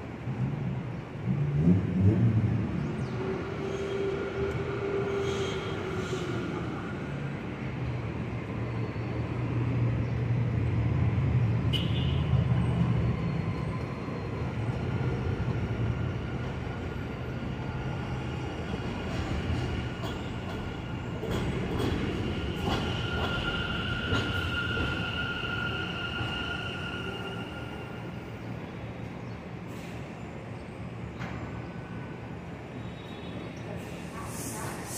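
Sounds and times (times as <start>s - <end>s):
subway train rumbling: 0.0s - 34.9s.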